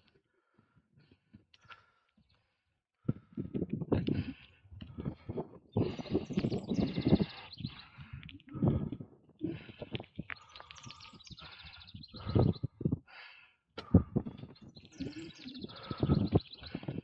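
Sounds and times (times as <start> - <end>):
person breathing heavily: 0.1 - 17.0.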